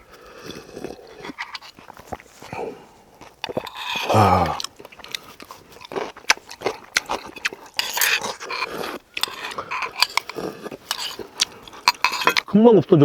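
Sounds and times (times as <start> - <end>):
chewing and slurping: 0.0 - 12.7.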